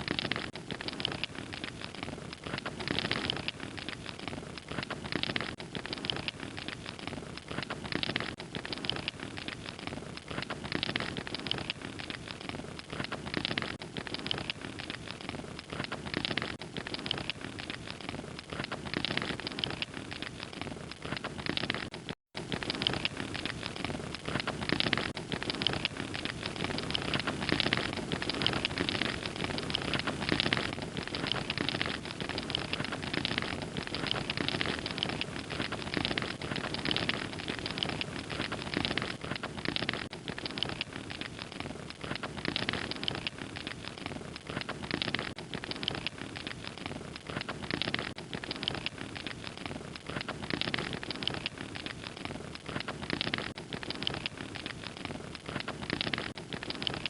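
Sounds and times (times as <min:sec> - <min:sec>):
log fire crackling: 0:00.0 - 0:57.0.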